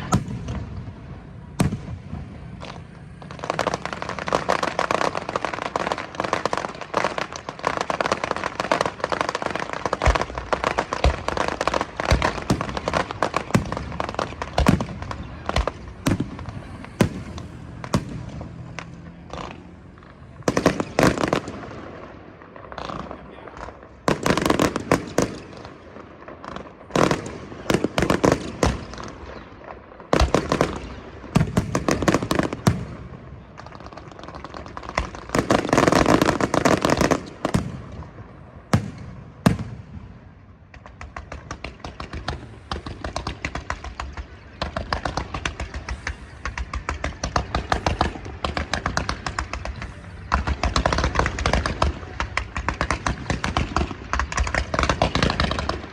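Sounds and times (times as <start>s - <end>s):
fireworks bursting with sharp bangs: 0.0s - 55.9s.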